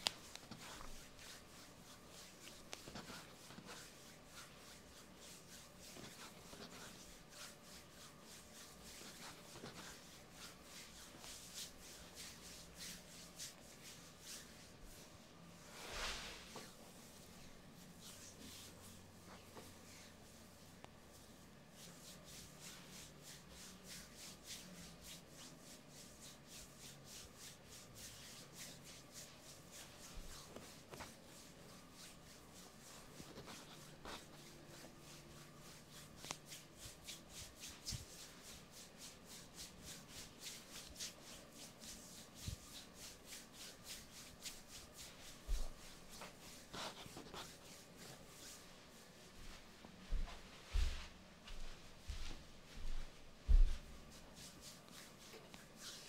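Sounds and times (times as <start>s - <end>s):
hand rubbing skin: 0.0s - 56.0s.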